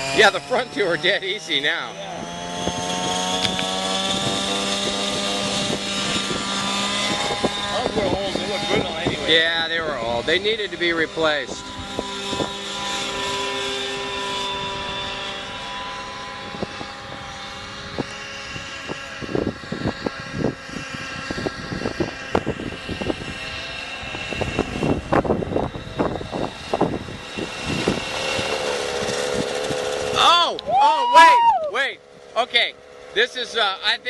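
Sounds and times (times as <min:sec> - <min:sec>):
model helicopter rotor whine: 0:00.0 - 0:34.0.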